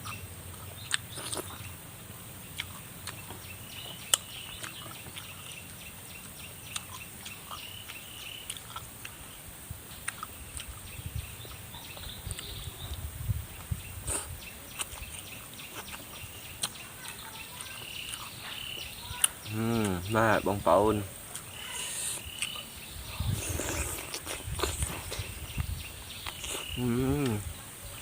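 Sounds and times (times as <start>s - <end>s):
person chewing wetly: 0.0s - 1.7s, 2.6s - 9.2s, 10.0s - 12.6s, 13.5s - 20.0s, 21.3s - 27.4s
birds calling: 0.0s - 28.0s.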